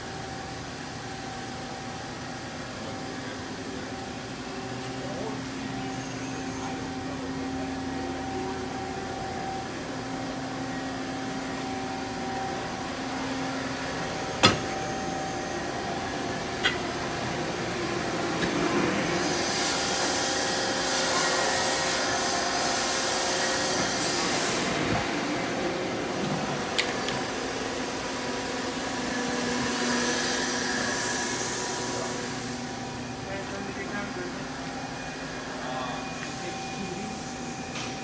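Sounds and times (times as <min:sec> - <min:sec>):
lathe humming: 0:03.8 - 0:37.8.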